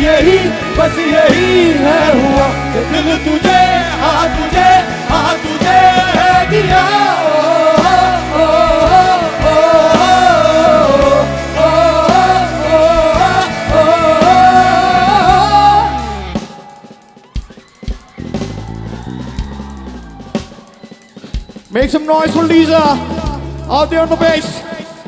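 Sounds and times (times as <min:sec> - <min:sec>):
pop-rock band playing: 0:00.0 - 0:25.0.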